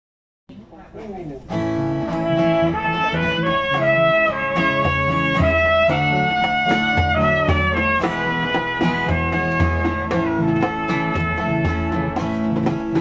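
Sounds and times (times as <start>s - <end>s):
acoustic-electric guitar playing: 0.6s - 13.0s
low bass notes: 1.6s - 13.0s
melody of long held notes: 1.8s - 13.0s.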